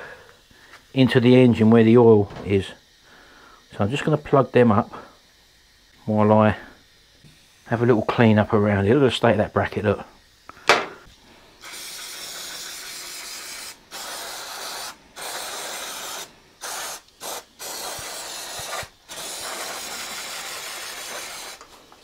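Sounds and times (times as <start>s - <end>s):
aerosol spray can hissing: 0.0s - 22.0s.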